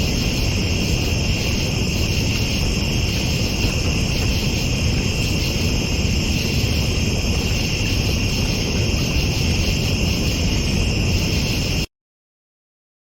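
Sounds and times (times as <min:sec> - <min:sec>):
crickets trilling: 0:00.0 - 0:11.9
steady low rumble: 0:00.0 - 0:11.9.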